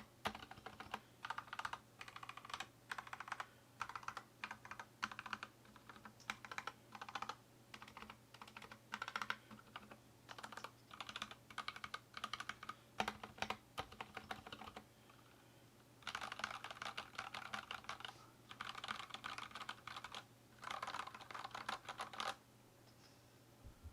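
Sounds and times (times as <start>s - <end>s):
typing on mechanical keyboard: 0.0s - 14.8s, 16.0s - 22.4s.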